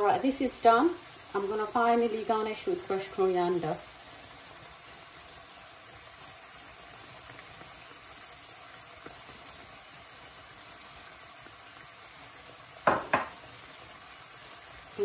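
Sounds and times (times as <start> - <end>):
curry sizzling in a frying pan: 0.0 - 15.0.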